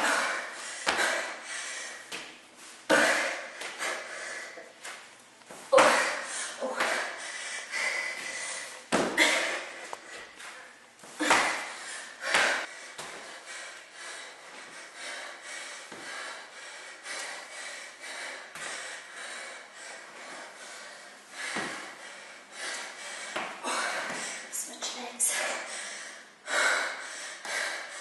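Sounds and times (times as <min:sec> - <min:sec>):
woman breathing hard: 0:00.0 - 0:05.0, 0:05.7 - 0:28.0.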